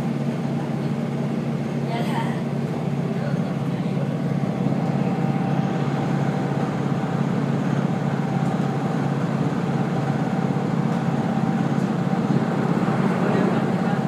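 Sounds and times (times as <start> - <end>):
diesel engine drone: 0.0 - 14.0
wheels running on rail: 0.0 - 14.0.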